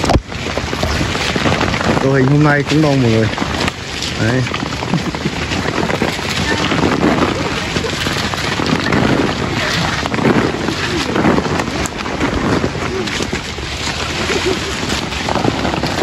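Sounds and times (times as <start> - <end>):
berries pattering down: 0.0 - 16.0
branches and leaves rustling: 0.0 - 16.0
voices talking: 0.8 - 16.0.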